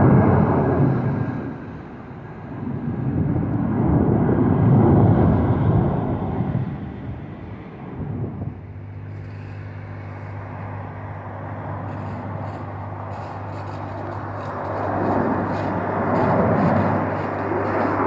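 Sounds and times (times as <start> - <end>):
airliner engine noise: 0.0 - 18.0
steady low hum: 0.0 - 18.0.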